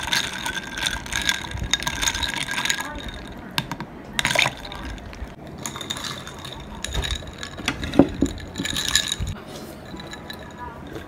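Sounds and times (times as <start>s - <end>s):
ice and stirrer clinking glass: 0.0s - 11.0s.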